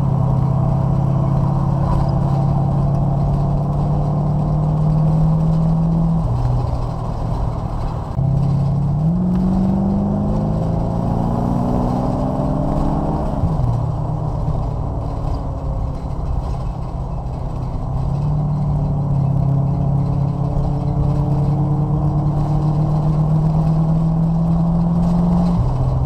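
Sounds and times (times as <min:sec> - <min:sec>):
racing car engine from inside cabin: 0:00.0 - 0:26.0.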